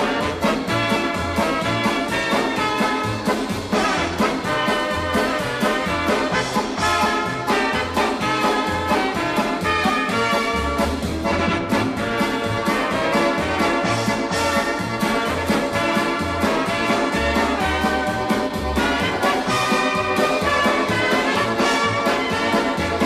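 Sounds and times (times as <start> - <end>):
steady bass line: 0.0 - 23.0
swing music with brass: 0.0 - 23.0.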